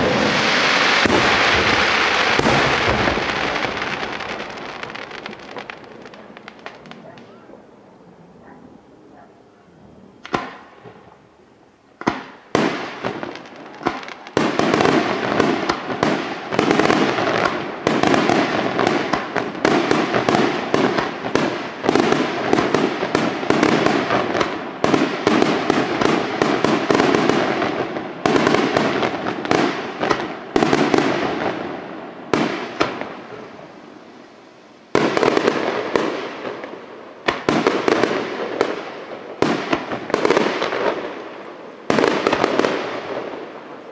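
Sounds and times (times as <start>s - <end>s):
rapid firework bangs and crackling: 0.0s - 7.4s, 10.2s - 11.1s, 12.0s - 43.9s.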